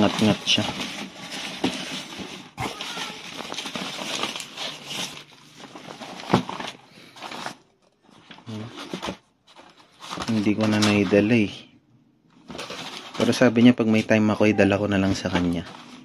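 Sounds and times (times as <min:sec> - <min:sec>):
wrapping crinkling and rustling: 0:00.0 - 0:16.0.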